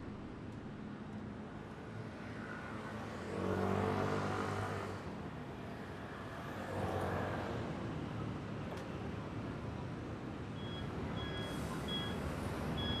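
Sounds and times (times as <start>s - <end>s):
vehicles driving past: 0.2s - 13.0s.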